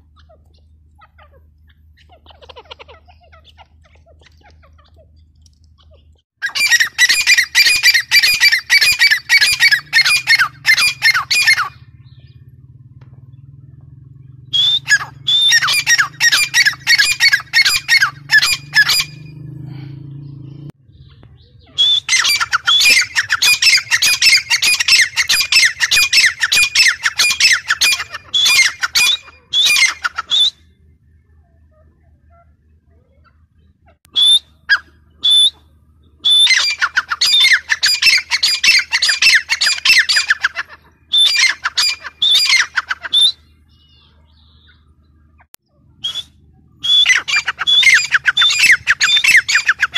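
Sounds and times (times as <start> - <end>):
francolin calling: 0.0 - 49.9.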